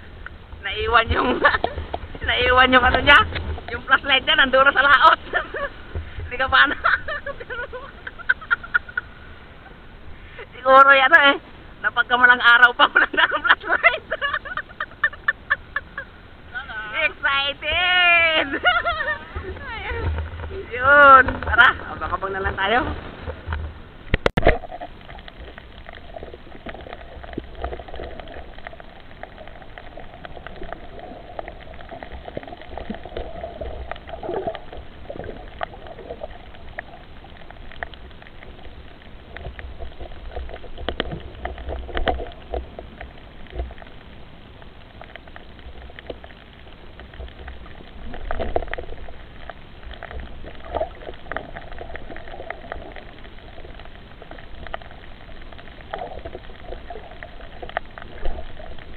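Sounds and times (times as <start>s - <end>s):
underwater clicks and crackles: 0.0s - 9.1s, 18.4s - 58.9s
underwater noise: 0.0s - 58.9s.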